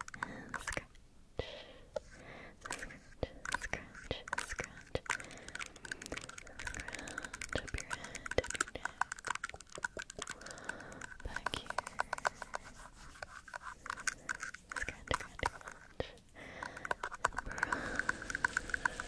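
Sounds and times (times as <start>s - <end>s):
fingernails tapping and scratching: 2.7s - 19.0s.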